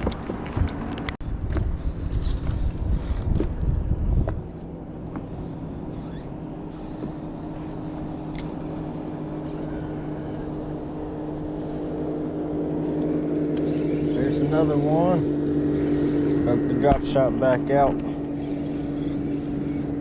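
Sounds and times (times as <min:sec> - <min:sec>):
wind buffeting microphone: 0:00.0 - 0:17.2
boat motor humming: 0:00.0 - 0:20.0.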